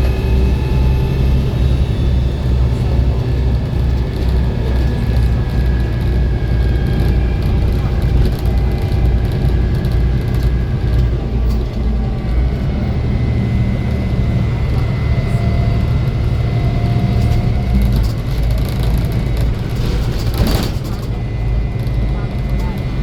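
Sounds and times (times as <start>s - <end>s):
diesel engine rumble: 0.0s - 23.0s.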